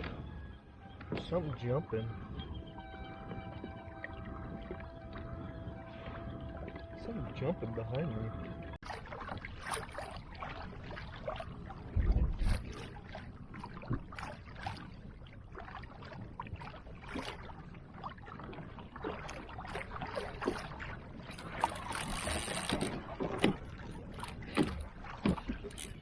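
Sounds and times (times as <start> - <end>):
water lapping against kayak hull: 1.0 - 26.0.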